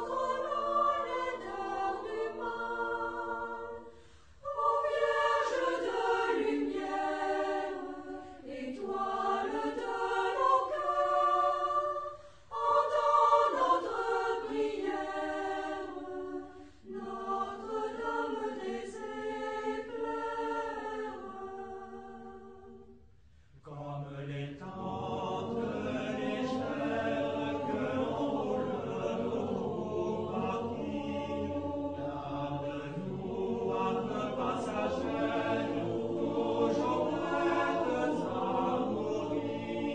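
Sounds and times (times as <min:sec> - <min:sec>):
choir singing: 0:00.0 - 0:23.0, 0:23.6 - 0:39.9.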